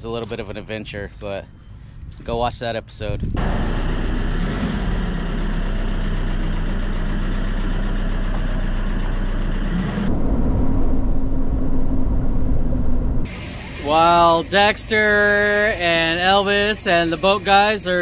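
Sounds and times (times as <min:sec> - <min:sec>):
vehicle driving road noise: 0:03.2 - 0:18.0
truck engine idling: 0:03.4 - 0:18.0.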